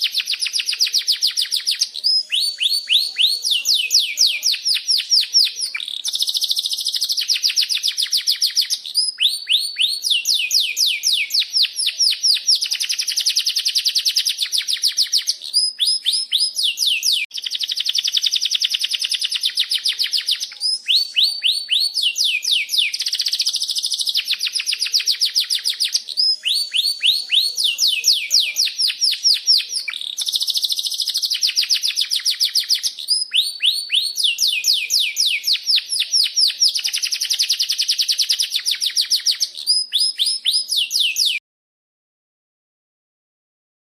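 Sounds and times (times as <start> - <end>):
canary singing chirps and trills: 0.0 - 41.4.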